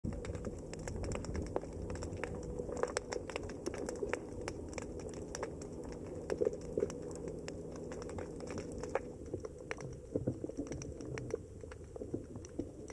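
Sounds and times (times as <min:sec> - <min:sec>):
steady low rumble: 0:00.0 - 0:12.9
crackle of sharp clicks: 0:00.1 - 0:12.9.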